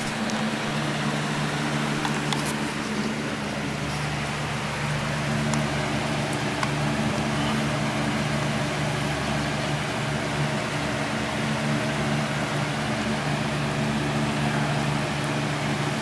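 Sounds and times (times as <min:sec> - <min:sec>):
steady rain hiss: 0:00.0 - 0:16.0
window fan humming: 0:00.0 - 0:16.0.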